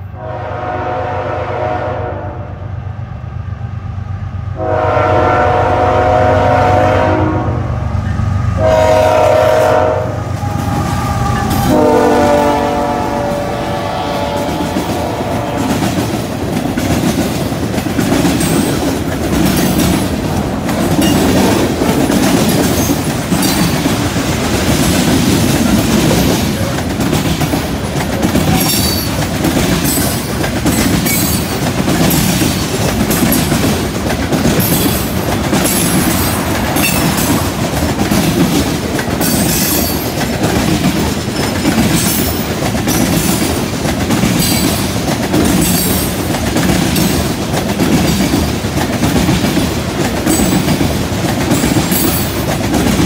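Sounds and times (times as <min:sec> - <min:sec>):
freight train rolling past: 0:00.0 - 0:53.0
wheels clickety-clack on track joints: 0:09.1 - 0:53.0.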